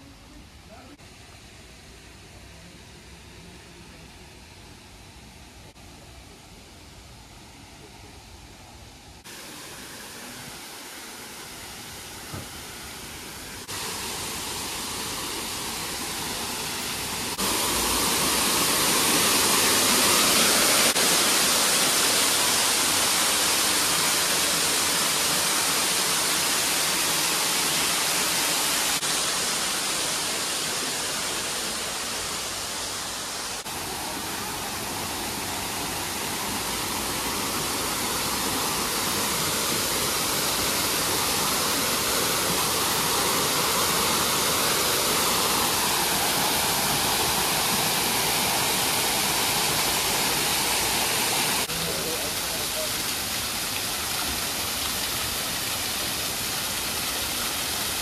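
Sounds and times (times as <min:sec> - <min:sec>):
rushing falling water: 0:00.0 - 0:58.0.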